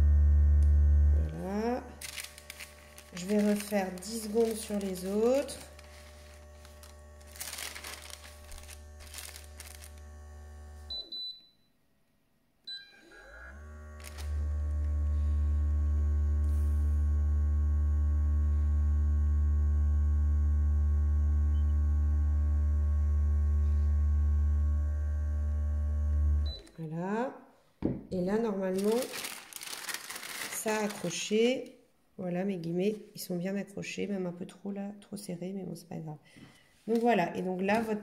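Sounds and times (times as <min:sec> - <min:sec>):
low electrical hum: 0:00.0 - 0:11.5, 0:13.2 - 0:27.4, 0:28.1 - 0:34.3.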